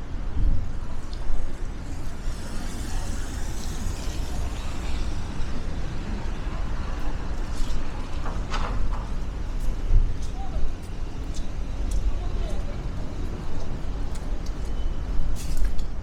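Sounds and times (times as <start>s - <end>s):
city traffic: 0.0s - 16.0s
wind buffeting microphone: 0.0s - 16.0s.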